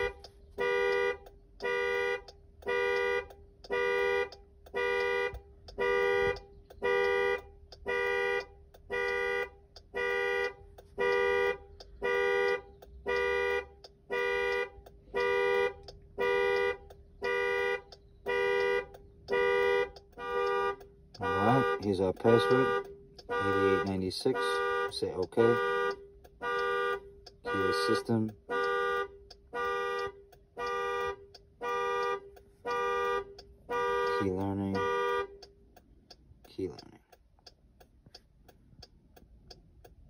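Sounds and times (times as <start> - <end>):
car alarm horn honking: 0.0 - 35.5.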